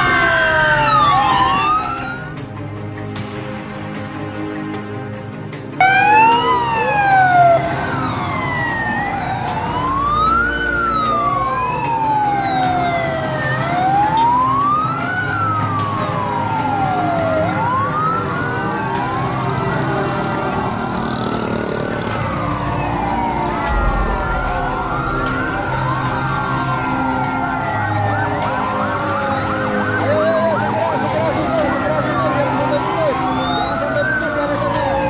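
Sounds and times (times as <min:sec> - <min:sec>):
emergency sirens wailing: 0:00.0 - 0:35.0
vehicle engines and traffic: 0:00.0 - 0:35.0.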